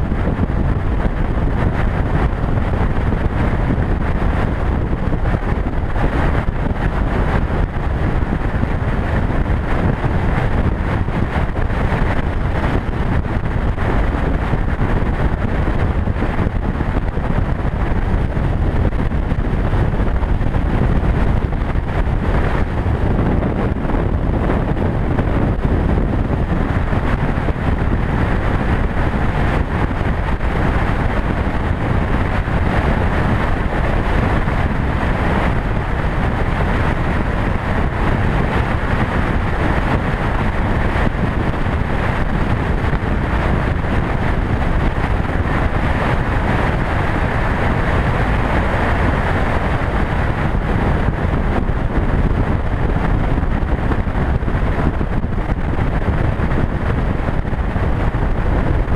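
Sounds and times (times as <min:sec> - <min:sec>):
motorcycle running: 0:00.0 - 0:58.9
road noise: 0:00.0 - 0:58.9
wind rushing over microphone: 0:00.0 - 0:58.9.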